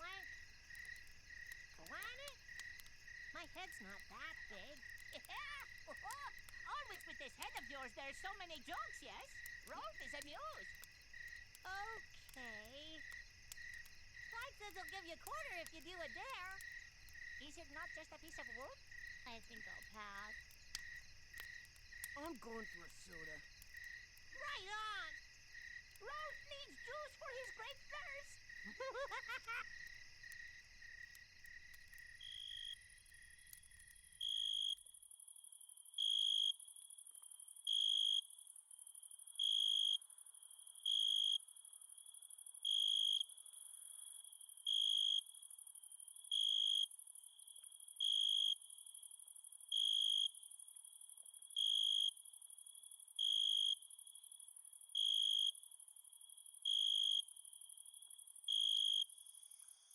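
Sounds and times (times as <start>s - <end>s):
crickets chirping: 0.0s - 59.9s
high insect hiss: 0.0s - 59.9s.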